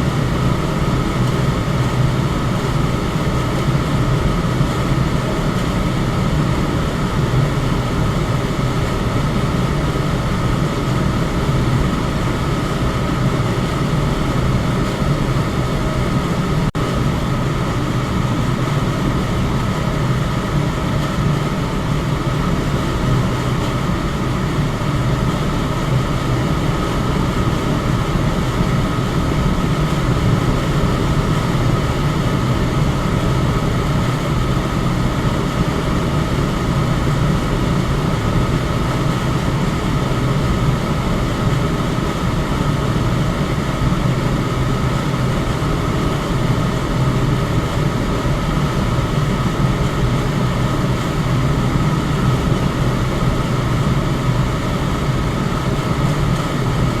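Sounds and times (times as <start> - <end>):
electric fan rushing air: 0.0 - 57.0.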